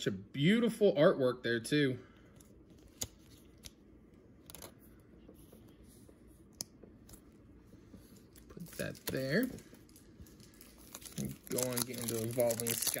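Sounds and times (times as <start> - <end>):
soft card rustling: 2.2 - 13.0.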